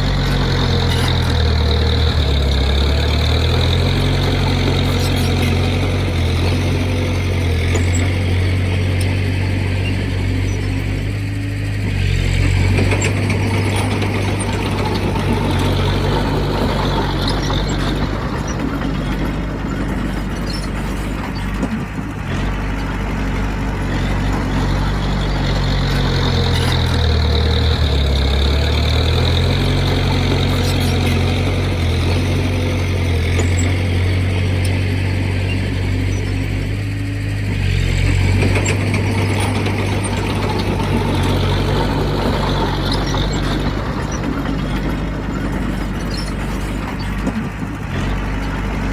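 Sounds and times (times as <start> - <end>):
heavy machinery diesel engine: 0.0 - 48.9.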